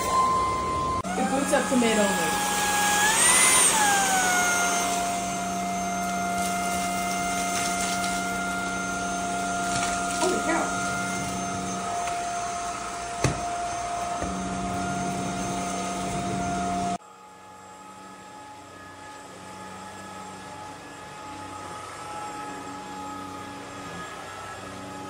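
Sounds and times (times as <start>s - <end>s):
stick vacuum whining: 0.0s - 17.0s, 18.0s - 25.0s.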